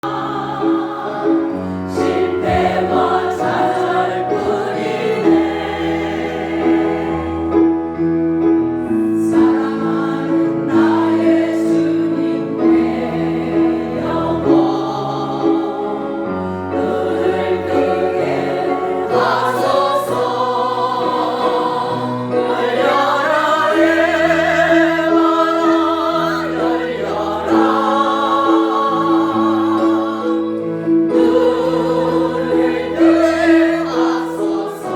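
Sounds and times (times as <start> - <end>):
choral singing: 0.0 - 34.9.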